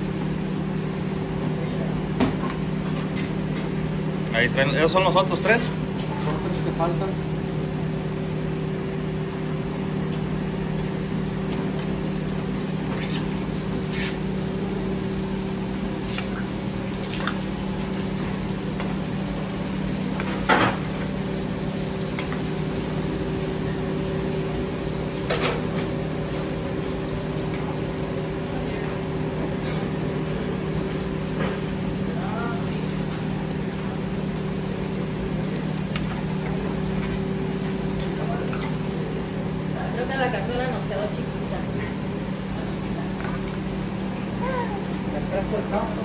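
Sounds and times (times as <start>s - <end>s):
kitchen equipment hum: 0.0s - 46.0s.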